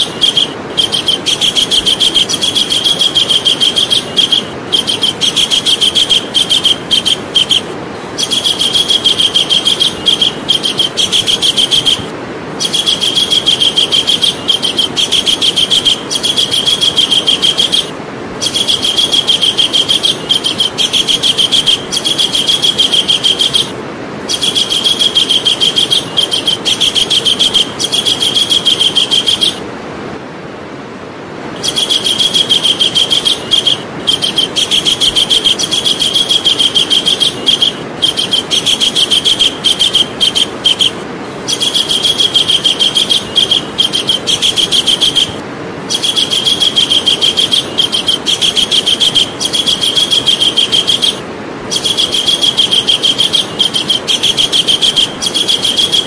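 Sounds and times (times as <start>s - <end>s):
kingfisher calling: 0.0s - 29.7s, 31.6s - 56.0s
background hiss: 0.0s - 56.0s.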